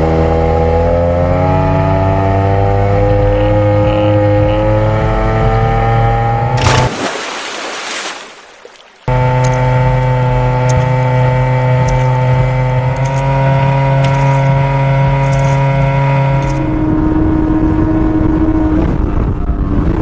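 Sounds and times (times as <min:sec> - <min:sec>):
vehicle engine hum: 0:00.0 - 0:07.0, 0:08.3 - 0:20.0.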